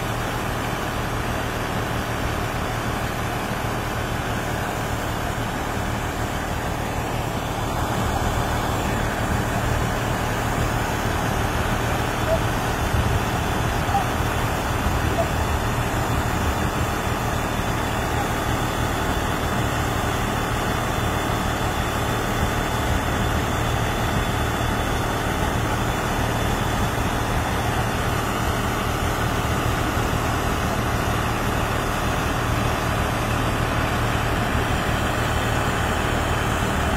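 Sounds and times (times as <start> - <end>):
combine harvester engine running: 0.0 - 36.9.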